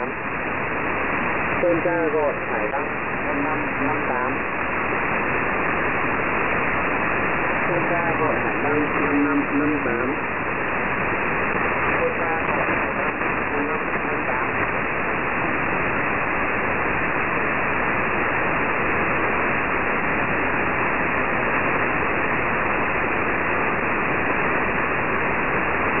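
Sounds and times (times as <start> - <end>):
shortwave radio static hiss: 0.0 - 26.0.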